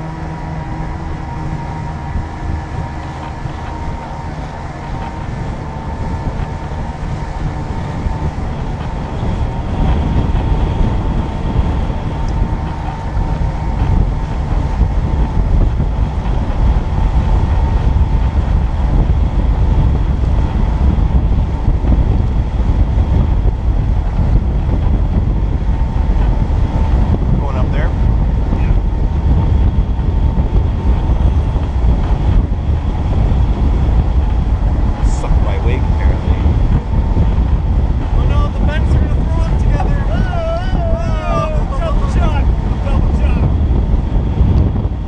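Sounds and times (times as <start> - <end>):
boat motor running: 0.0 - 45.0
wind buffeting microphone: 0.0 - 45.0.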